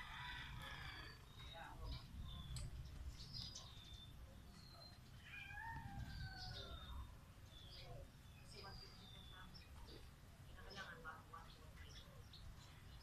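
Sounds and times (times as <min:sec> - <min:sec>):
faint high bird chirps: 0:00.7 - 0:13.0.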